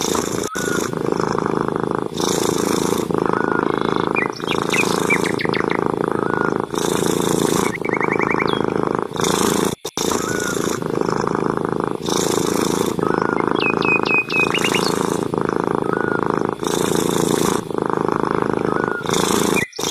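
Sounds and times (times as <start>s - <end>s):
birds chirping: 0.0s - 19.9s
cat purring loudly: 0.0s - 19.9s.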